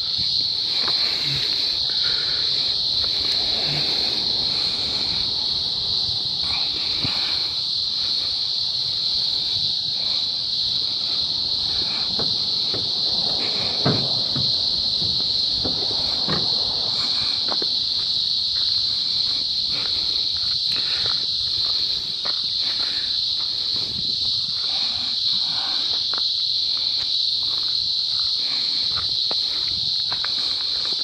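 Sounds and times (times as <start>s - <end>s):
cicadas buzzing: 0.0s - 31.0s.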